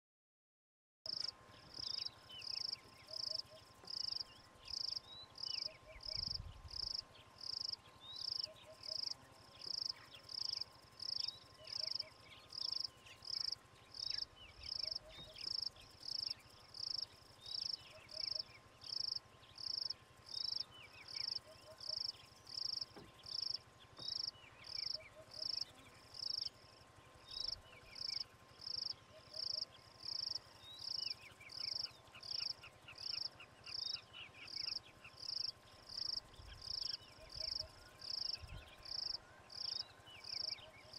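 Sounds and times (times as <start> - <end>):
insect calling in high pulses: 2.4 - 40.9.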